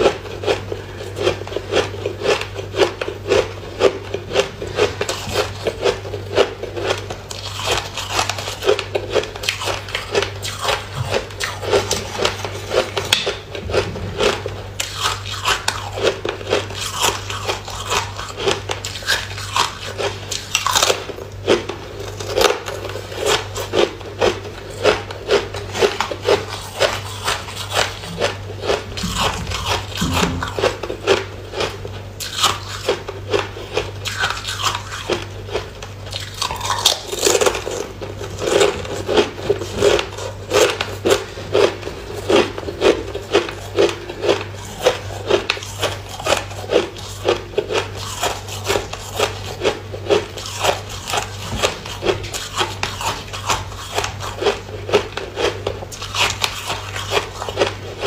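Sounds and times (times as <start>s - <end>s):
crunching hard food: 0.0s - 58.0s
steady low hum: 0.0s - 58.0s.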